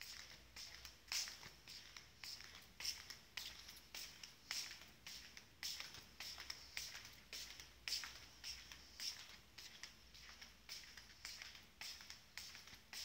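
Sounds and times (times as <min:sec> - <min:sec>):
faint footsteps: 0:00.0 - 0:13.0.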